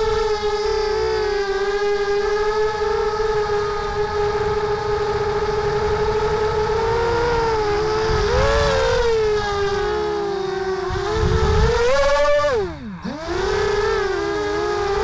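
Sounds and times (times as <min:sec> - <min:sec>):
low rumble of air on microphone: 0:00.0 - 0:15.0
quadcopter motors whining: 0:00.0 - 0:15.0.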